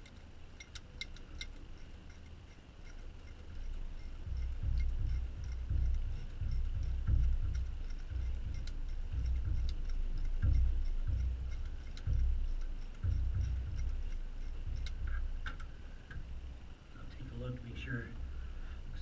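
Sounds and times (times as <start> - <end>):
ratchet thumping: 0.0 - 16.8
faint ratchet clicks: 0.0 - 18.4.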